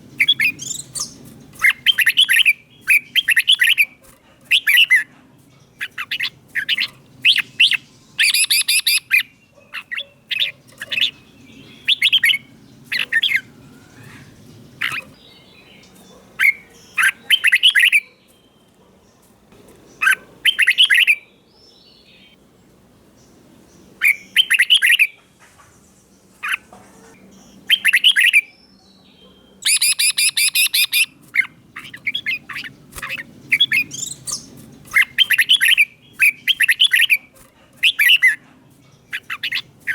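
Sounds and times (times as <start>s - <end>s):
bird singing quick phrases: 0.1s - 5.1s, 5.7s - 22.4s, 23.2s - 25.2s, 26.4s - 38.4s, 39.0s - 39.9s.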